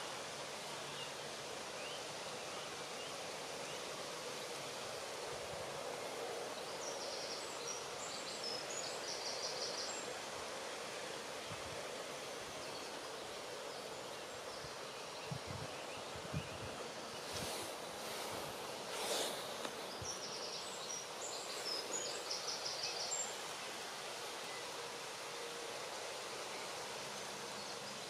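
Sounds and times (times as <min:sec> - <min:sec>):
outdoor ambient hiss: 0:00.0 - 0:28.0.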